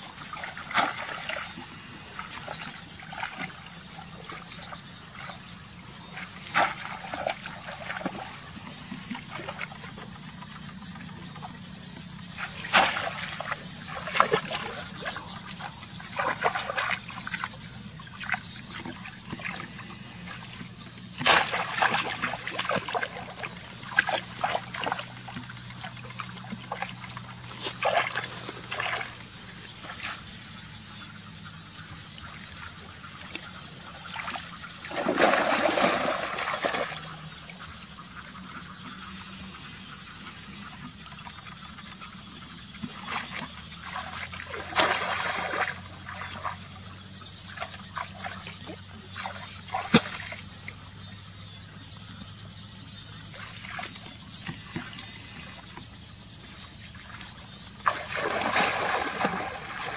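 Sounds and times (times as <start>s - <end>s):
water splashing and trickling: 0.0s - 59.9s.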